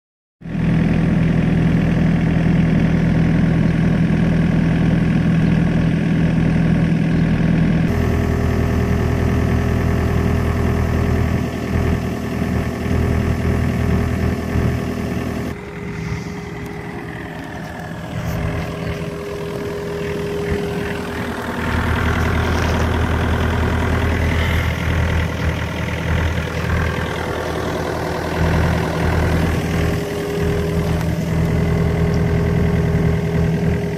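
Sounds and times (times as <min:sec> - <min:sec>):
excavator diesel engine idling: 0:00.5 - 0:33.9.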